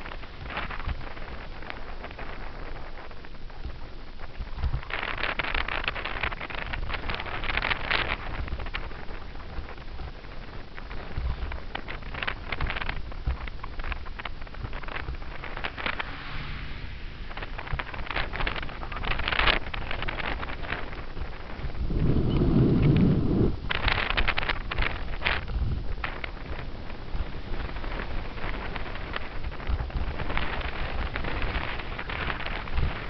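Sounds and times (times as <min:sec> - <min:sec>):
bicycle rattles and clicks: 0:00.0 - 0:16.0, 0:17.6 - 0:33.0
wind on microphone: 0:00.0 - 0:33.0.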